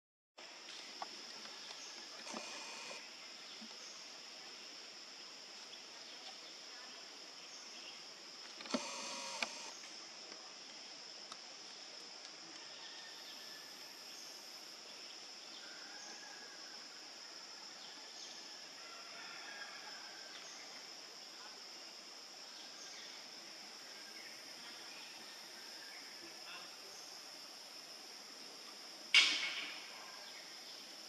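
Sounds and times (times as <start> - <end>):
insects droning: 0.4 - 31.0
faint chirps: 0.8 - 31.0.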